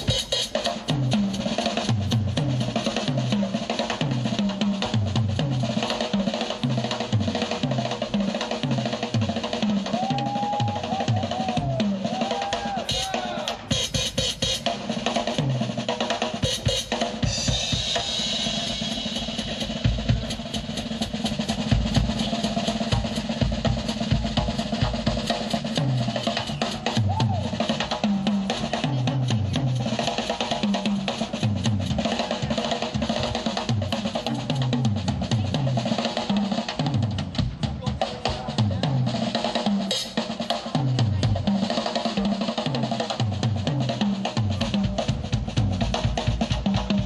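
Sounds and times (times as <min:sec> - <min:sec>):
drum kit solo: 0:00.0 - 0:47.0.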